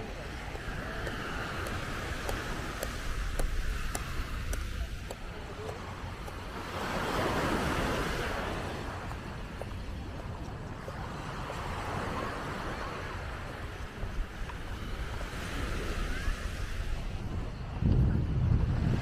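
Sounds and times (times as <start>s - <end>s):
sea waves on a beach: 0.0s - 19.0s
wind on the microphone: 0.0s - 19.0s.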